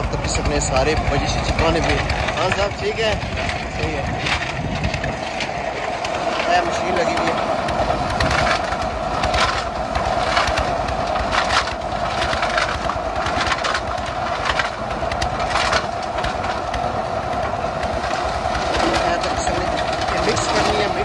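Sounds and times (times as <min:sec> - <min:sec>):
concrete mixer engine drone: 0:00.0 - 0:21.0
gravel churning in drum: 0:00.0 - 0:21.0.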